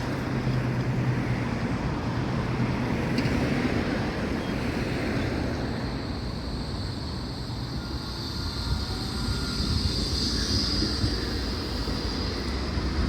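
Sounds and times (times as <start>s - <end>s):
passing traffic: 0.0s - 13.0s
tram hissing on rails: 0.0s - 13.0s.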